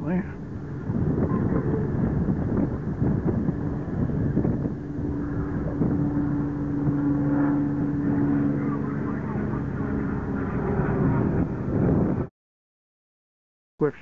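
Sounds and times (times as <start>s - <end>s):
engine humming: 0.0s - 12.3s
wind buffeting microphone: 0.0s - 12.3s.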